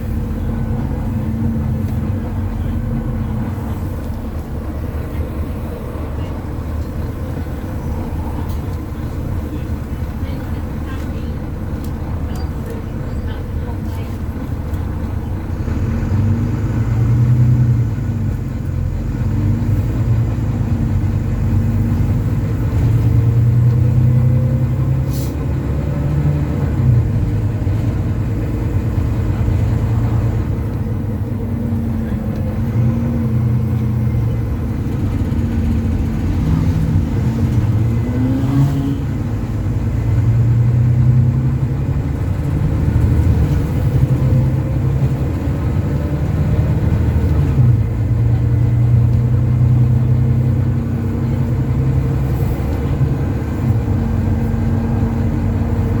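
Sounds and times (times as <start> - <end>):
bus diesel engine revving: 0.0 - 56.0.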